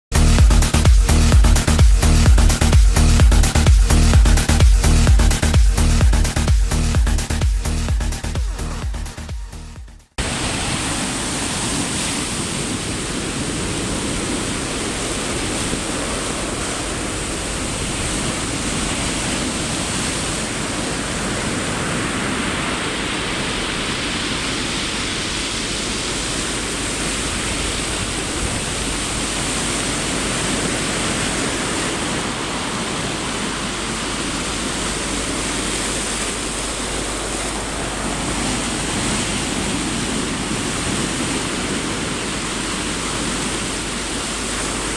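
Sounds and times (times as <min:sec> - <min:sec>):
surf washing on shore: 0:00.1 - 0:08.9, 0:10.2 - 0:44.9.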